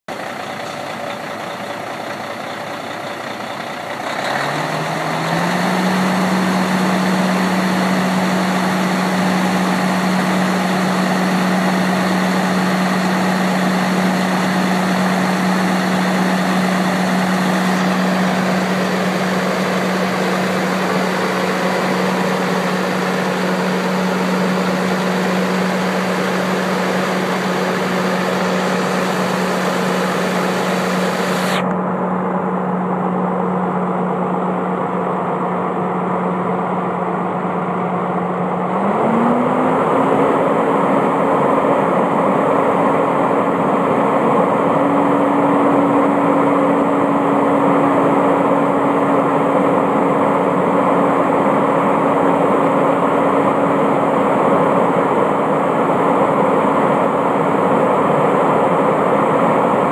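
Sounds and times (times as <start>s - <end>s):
diesel truck engine idling: 0.1s - 59.9s.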